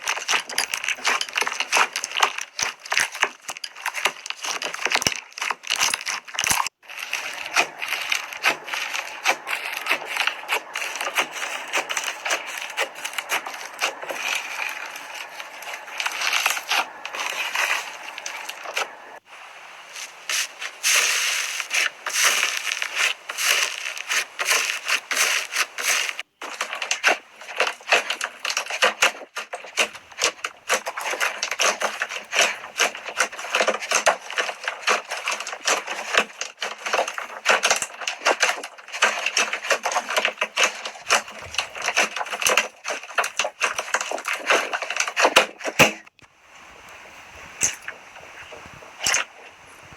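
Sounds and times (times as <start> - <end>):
slime crackling and popping: 0.0 - 19.2, 20.3 - 46.2.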